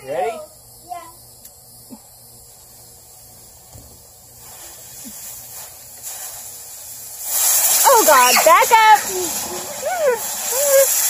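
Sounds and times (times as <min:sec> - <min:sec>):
firework fuse hissing: 0:00.0 - 0:11.0.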